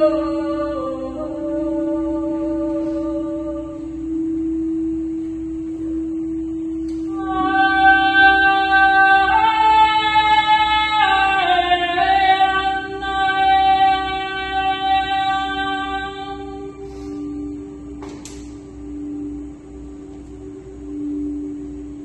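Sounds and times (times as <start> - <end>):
woman singing wordless notes: 0.0 - 22.0.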